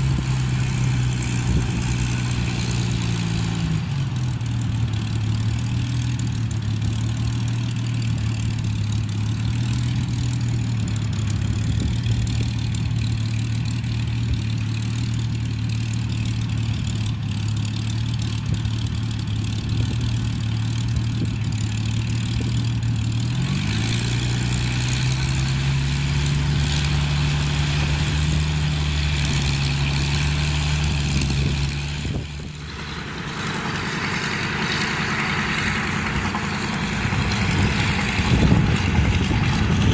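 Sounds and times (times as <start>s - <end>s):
piston aircraft engines droning: 0.0s - 39.9s.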